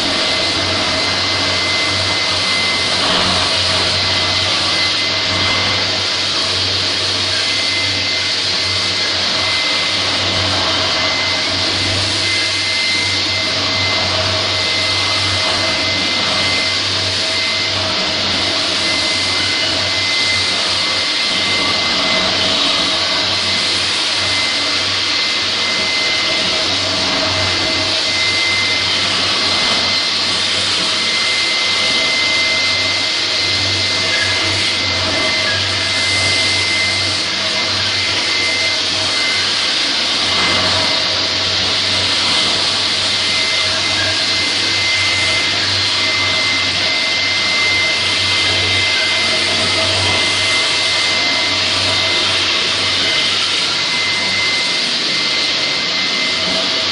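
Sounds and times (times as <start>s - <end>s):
floor grinder rushing noise: 0.0s - 56.9s
thin high whine: 0.0s - 56.9s.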